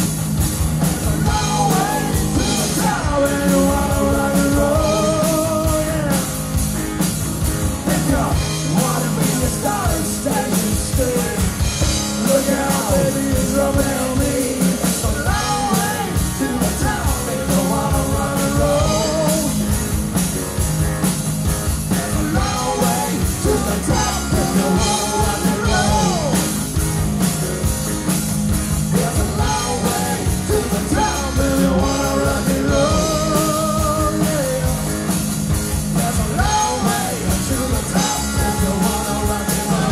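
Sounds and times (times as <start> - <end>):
live rock band playing: 0.0 - 39.9
man singing lead vocal: 0.8 - 6.5, 7.8 - 19.8, 21.8 - 26.7, 28.8 - 39.9.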